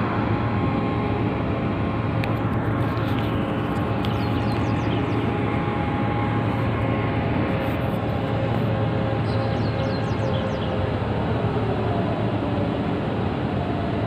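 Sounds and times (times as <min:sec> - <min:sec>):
ship engine drone: 0:00.0 - 0:14.0.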